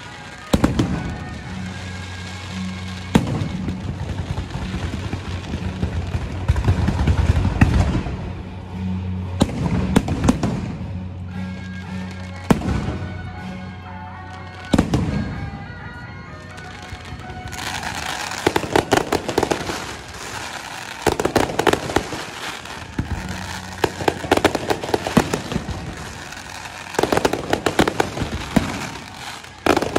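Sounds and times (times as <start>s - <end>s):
fireworks crackling: 0.0s - 29.9s
music with steady bass: 0.0s - 29.9s.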